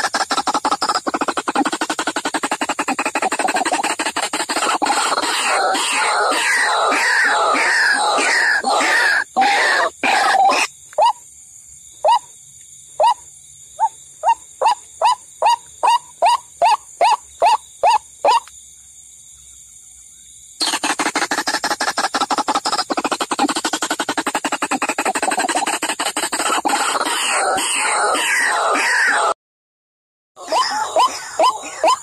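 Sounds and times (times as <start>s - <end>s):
waterhen calls: 0.0s - 11.2s, 13.0s - 13.2s, 13.8s - 18.5s, 20.6s - 29.4s, 30.4s - 32.0s.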